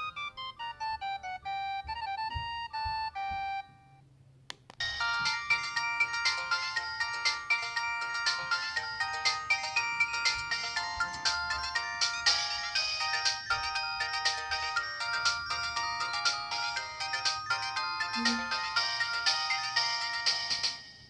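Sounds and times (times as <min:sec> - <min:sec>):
mobile phone ringtone melody: 0:00.0 - 0:04.0, 0:04.8 - 0:21.0.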